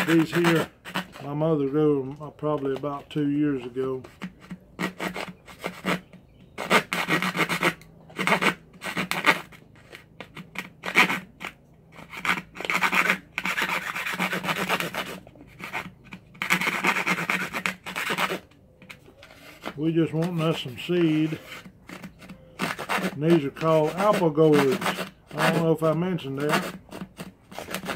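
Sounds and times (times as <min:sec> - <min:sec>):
hand saw rasping through gourd: 0:00.0 - 0:27.9.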